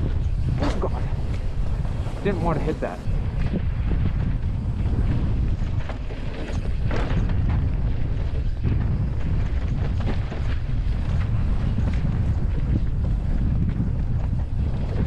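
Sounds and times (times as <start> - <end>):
bike tyres crunching on dirt: 0.0 - 15.0
wind buffeting microphone: 0.0 - 15.0.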